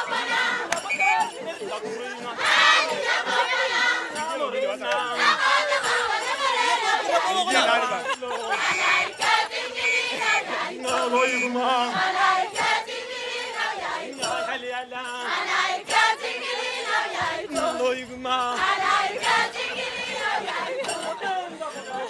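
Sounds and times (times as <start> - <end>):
women and girls singing: 0.0 - 22.0.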